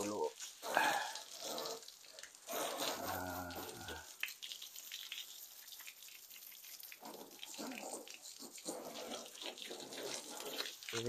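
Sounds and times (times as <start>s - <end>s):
hose water spraying on car: 0.0s - 11.0s.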